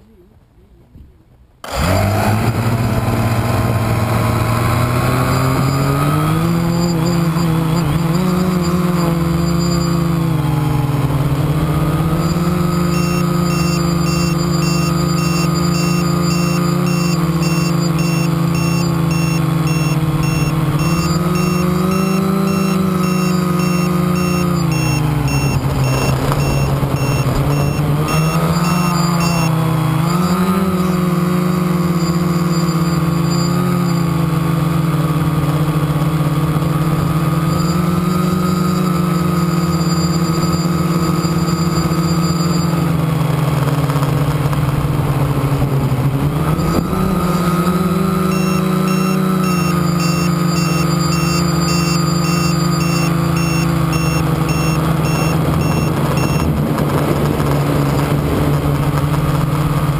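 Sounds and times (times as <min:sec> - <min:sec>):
drone propellers humming: 0:01.6 - 0:59.9.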